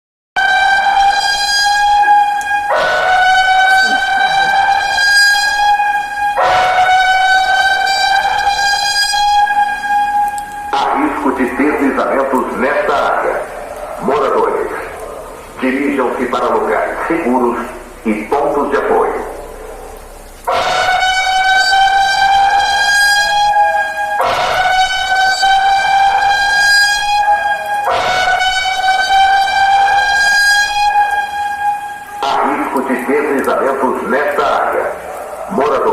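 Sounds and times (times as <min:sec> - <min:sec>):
electronic warning siren: 0:00.4 - 0:35.9.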